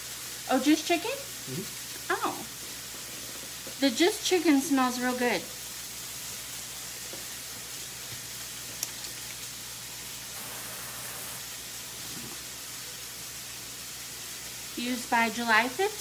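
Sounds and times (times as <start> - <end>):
chicken sizzling in pan: 0.0 - 16.0.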